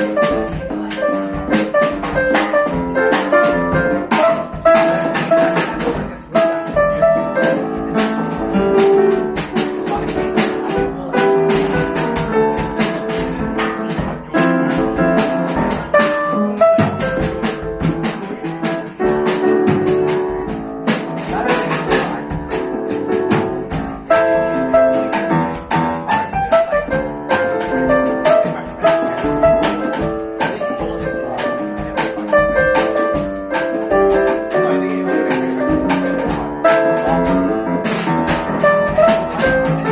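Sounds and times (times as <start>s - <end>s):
jazz band playing: 0.0s - 39.9s
piano: 0.0s - 39.9s.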